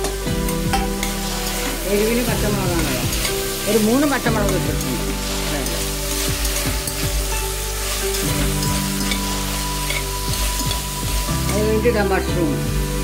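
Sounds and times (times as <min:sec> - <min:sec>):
vegetables sizzling in hot oil: 0:00.0 - 0:13.0
metal spatula scraping pot: 0:00.5 - 0:11.6.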